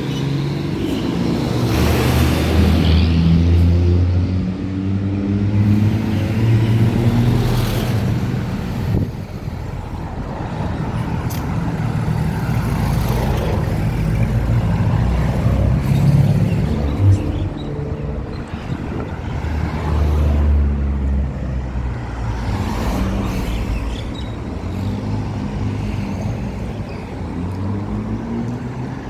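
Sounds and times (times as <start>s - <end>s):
vehicles passing on road: 0.0s - 29.0s.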